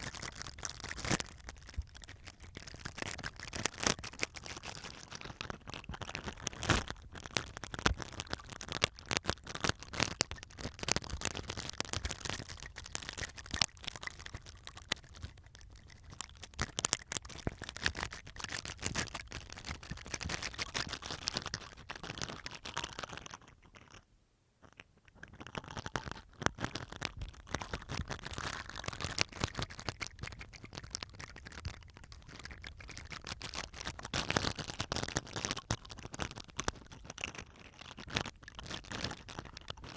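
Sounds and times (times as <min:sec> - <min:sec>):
toothbrush scratching on tape: 0:00.0 - 0:24.0, 0:24.7 - 0:39.9.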